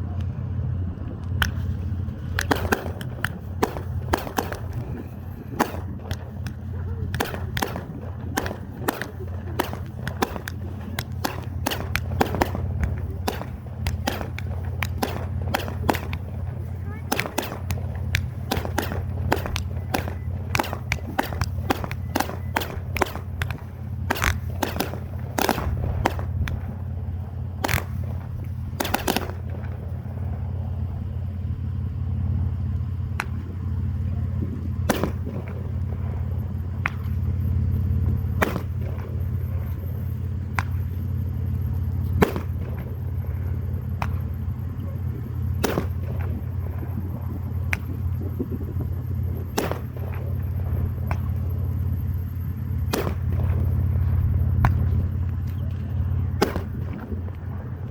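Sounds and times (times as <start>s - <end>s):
low steady rumble: 0.0s - 57.9s
fireworks bangs and cracks: 1.3s - 30.4s, 34.8s - 41.2s, 41.8s - 51.5s, 52.8s - 55.7s, 56.3s - 57.8s.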